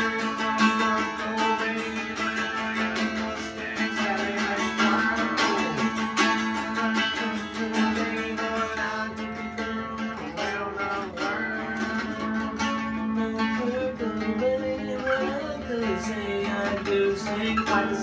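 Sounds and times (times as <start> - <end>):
electric guitar strumming chords: 0.0 - 18.0.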